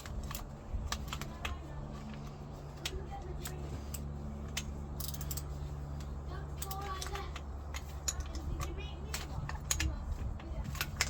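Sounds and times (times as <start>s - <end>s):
hand tools clicking on bolts: 0.0s - 11.0s
steady low hum: 0.0s - 11.0s.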